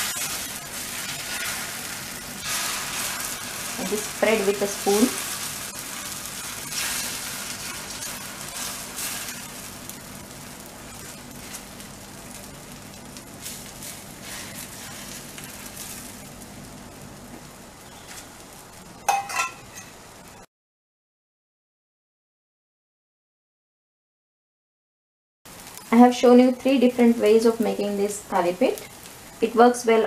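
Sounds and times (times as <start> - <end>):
batter sizzling in a pan: 0.0 - 20.5, 25.5 - 30.0.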